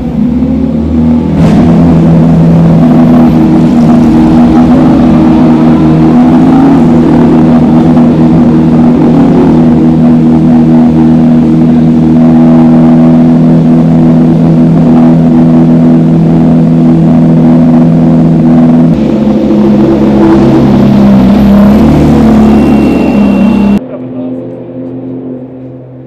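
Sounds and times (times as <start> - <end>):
race car engines running: 0.0 - 26.0.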